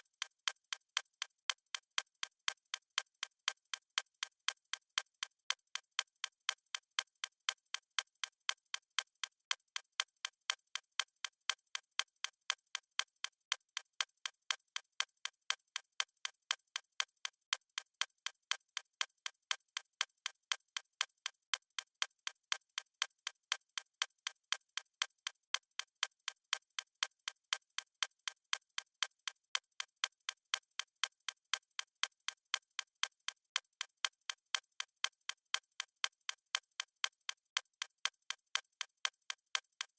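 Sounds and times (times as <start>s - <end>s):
stopwatch ticking: 0.0s - 11.8s, 12.4s - 39.9s.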